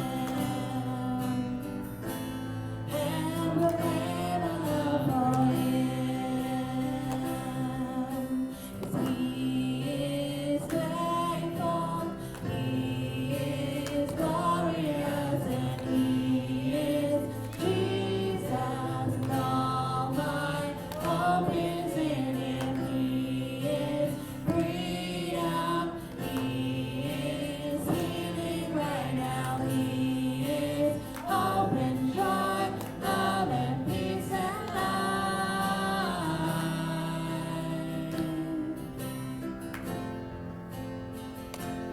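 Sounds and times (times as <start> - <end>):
group singing gospel song: 0.0 - 39.2.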